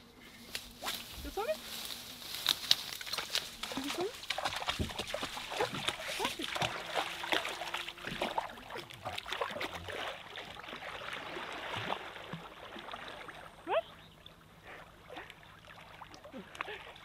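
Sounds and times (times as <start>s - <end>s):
water splashing and sloshing: 0.7s - 17.0s.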